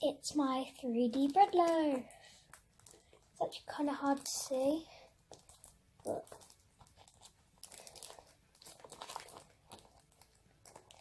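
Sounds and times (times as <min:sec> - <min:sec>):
paper crinkling and crackling: 0:01.0 - 0:11.0.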